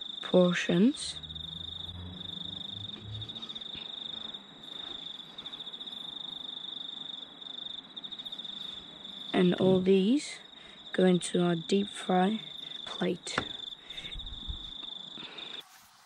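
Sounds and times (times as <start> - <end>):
insects trilling: 0.0 - 15.6
faint low hum: 0.2 - 7.4, 8.0 - 15.5.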